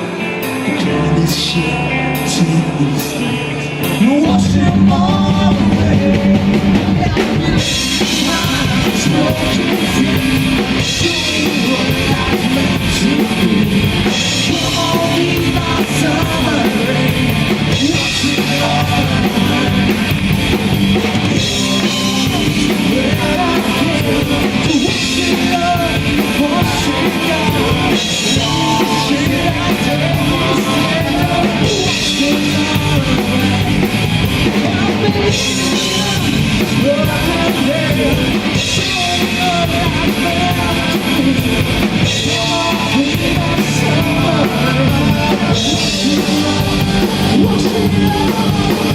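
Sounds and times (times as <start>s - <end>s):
drum kit: 0.0s - 48.9s
rock band playing live: 0.0s - 48.9s.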